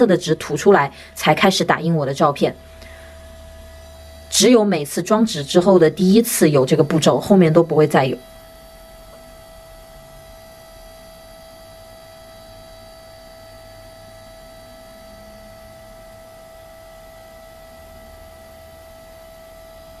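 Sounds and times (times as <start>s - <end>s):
photo printer feed motor humming: 0.0s - 20.0s.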